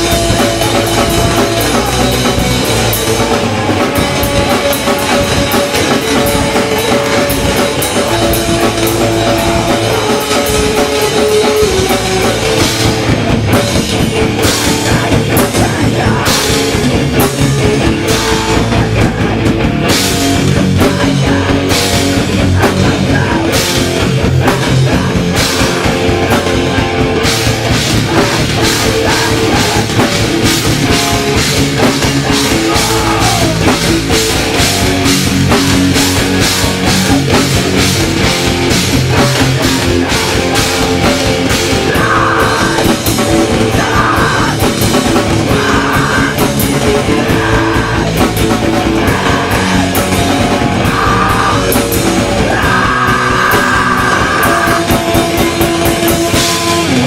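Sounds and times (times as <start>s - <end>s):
punk band playing live: 0.0s - 57.0s.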